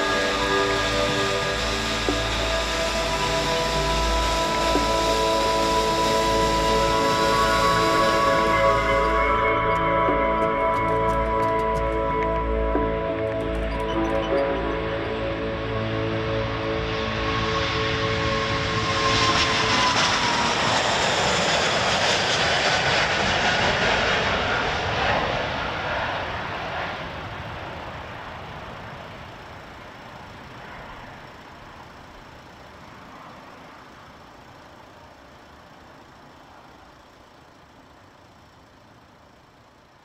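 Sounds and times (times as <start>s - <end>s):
jet engines roaring at take-off: 0.0s - 40.0s.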